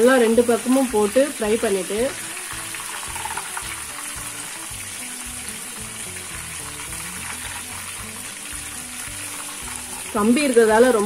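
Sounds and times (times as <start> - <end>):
fish deep-frying in bubbling oil: 0.0 - 11.0.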